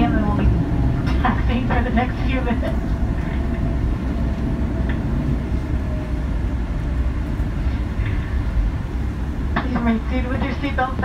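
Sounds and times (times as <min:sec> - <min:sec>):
low rumble of wheels and engines: 0:00.0 - 0:11.0.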